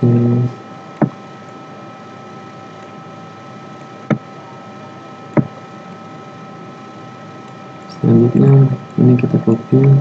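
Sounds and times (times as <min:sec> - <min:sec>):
faint steady whine: 0:00.0 - 0:10.0
microphone hiss: 0:00.0 - 0:10.0.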